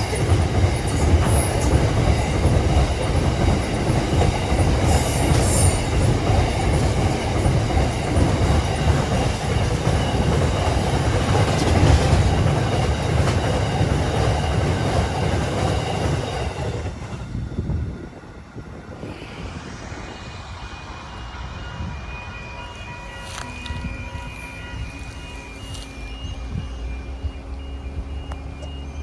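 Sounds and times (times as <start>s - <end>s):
train running on rails: 0.0s - 29.0s.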